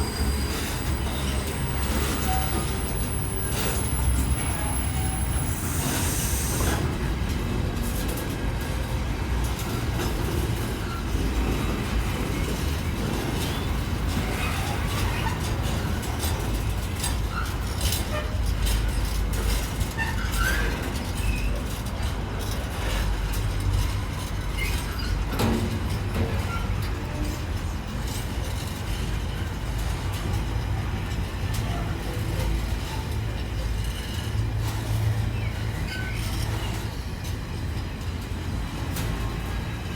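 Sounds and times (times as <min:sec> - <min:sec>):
train rumbling on rails: 0:00.0 - 0:39.9
wheels clacking over rail joints: 0:00.0 - 0:39.9.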